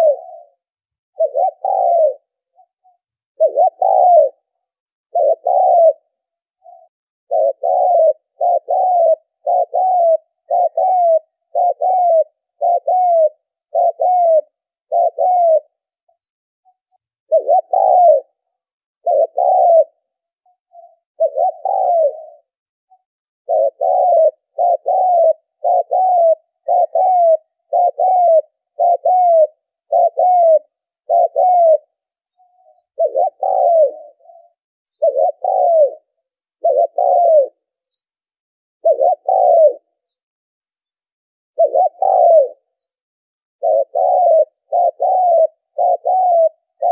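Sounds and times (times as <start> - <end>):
dove cooing: 0.0 - 38.0, 38.8 - 40.2, 41.6 - 42.8, 43.6 - 46.9.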